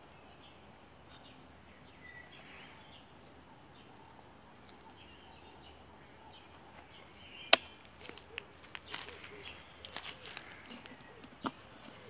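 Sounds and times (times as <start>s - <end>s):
distant bird chirps: 0.0s - 12.0s.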